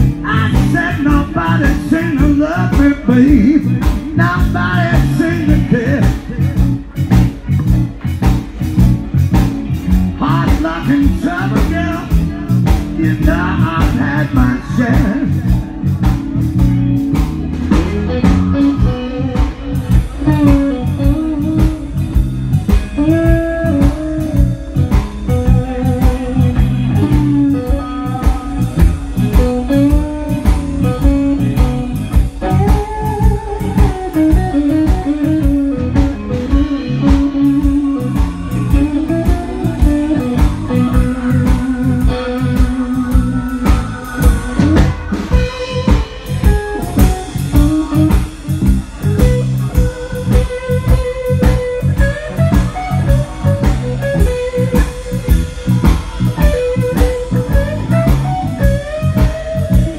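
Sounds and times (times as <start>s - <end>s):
bass line: 0.0s - 59.9s
drum kit beat: 0.0s - 59.9s
electric guitar lead: 0.0s - 59.9s.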